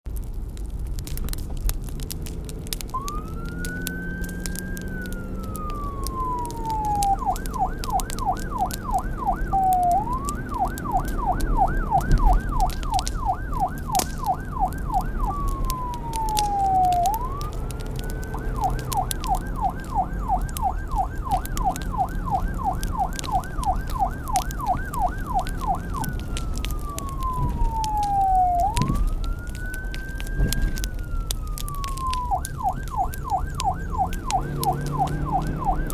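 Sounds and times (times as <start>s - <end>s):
fire crackling: 0.0s - 35.9s
emergency siren wailing and yelping: 1.2s - 35.9s.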